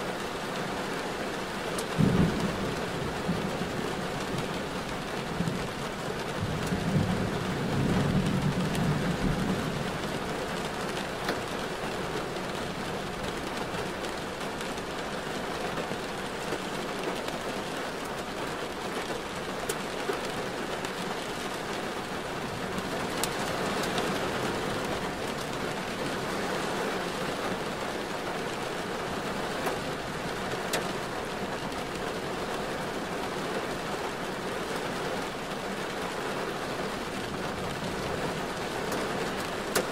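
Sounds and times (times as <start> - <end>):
rain and wet road noise: 0.0 - 39.9
sharp ticks of raindrops: 0.0 - 39.9.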